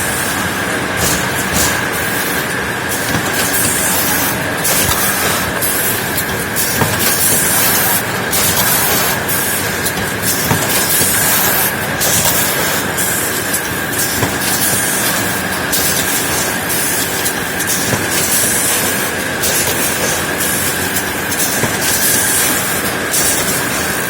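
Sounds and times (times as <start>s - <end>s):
machine clatter and whine: 0.0s - 24.0s.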